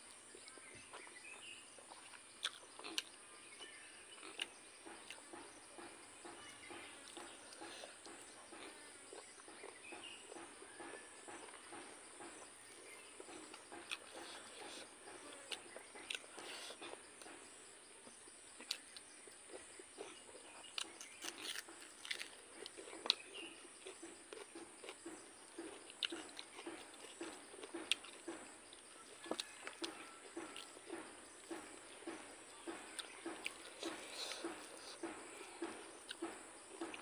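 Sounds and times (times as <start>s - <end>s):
chewing food: 0.0s - 37.0s.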